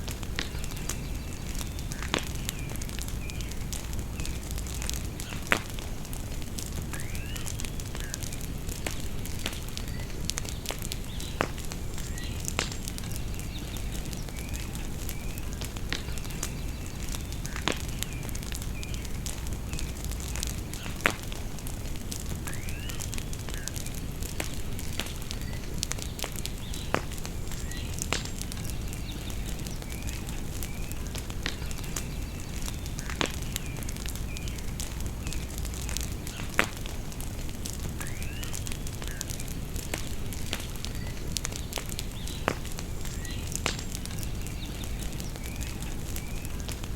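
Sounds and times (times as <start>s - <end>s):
bonfire crackling: 0.0s - 46.9s
songbirds chirping: 0.0s - 46.9s
wood popping: 0.0s - 46.9s.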